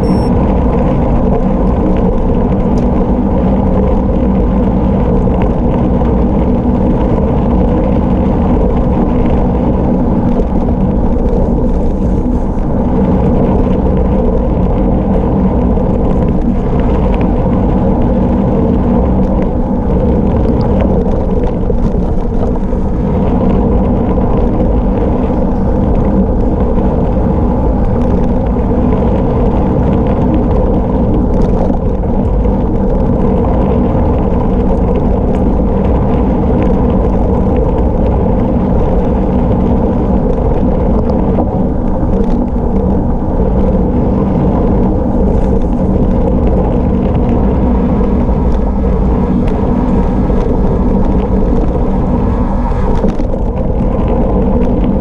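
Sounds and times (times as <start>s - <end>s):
bike rattles: 0.0s - 55.0s
wind noise on microphone: 0.0s - 55.0s
tyres rumbling on gravel: 0.3s - 55.0s.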